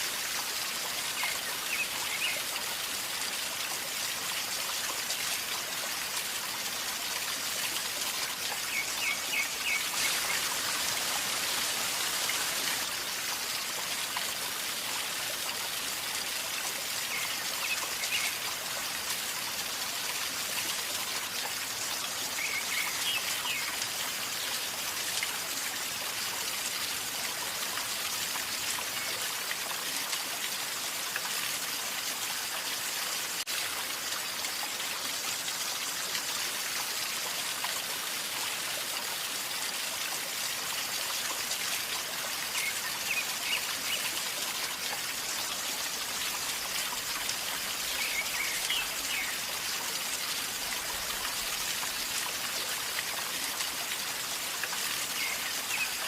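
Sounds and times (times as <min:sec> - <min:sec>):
river water gurgling: 0:00.0 - 0:56.0.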